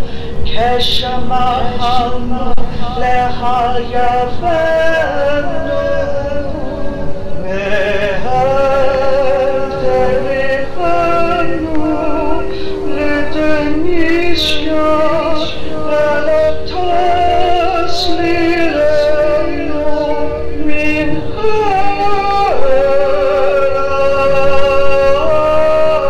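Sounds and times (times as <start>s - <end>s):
held accompaniment notes: 0.0s - 26.0s.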